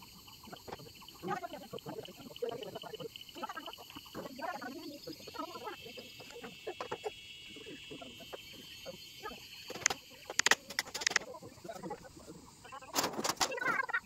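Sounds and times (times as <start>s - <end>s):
high-pitched hum: 0.0s - 12.9s.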